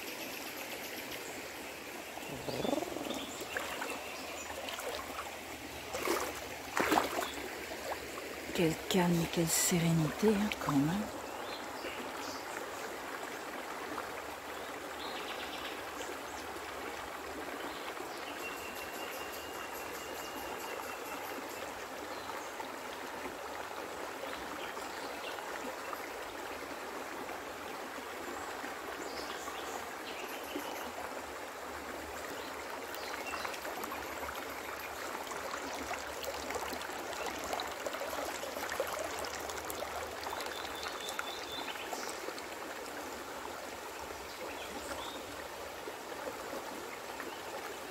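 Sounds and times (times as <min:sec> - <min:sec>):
river flowing over stones: 0:00.0 - 0:47.9.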